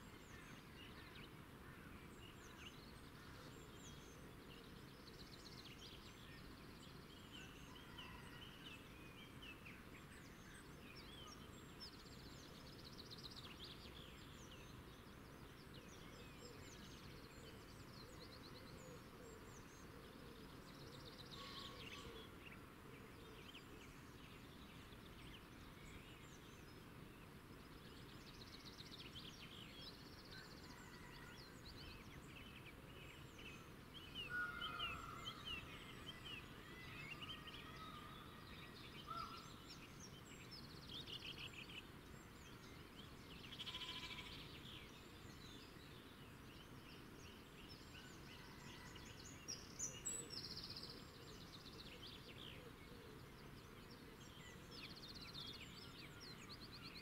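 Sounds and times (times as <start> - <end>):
low background hiss: 0.0 - 57.0
small birds chirping: 0.0 - 57.0.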